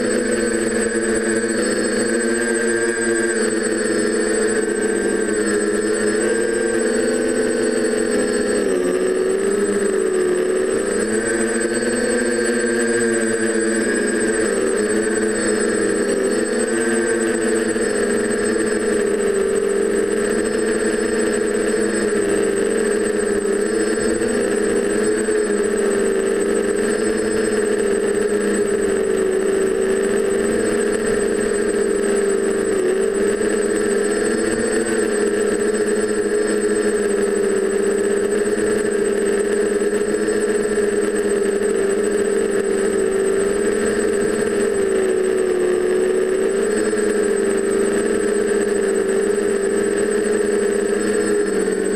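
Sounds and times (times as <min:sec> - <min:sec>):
drone motors buzzing: 0:00.0 - 0:51.9
high-pitched whine: 0:00.0 - 0:51.9.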